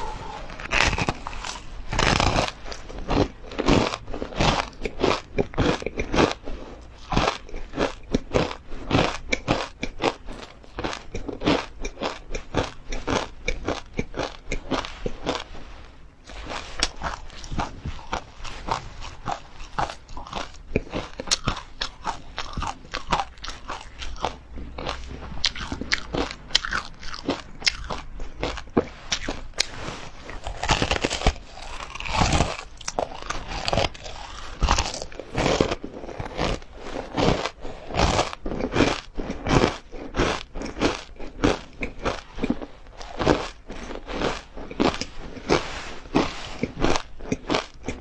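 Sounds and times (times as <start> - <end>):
crunchy ice cream bar chewing: 0.0 - 15.6, 16.2 - 48.0.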